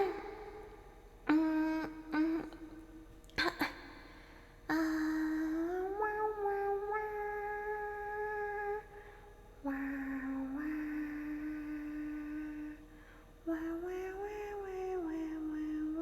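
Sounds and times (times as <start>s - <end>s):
woman singing wordless notes: 0.0s - 16.0s.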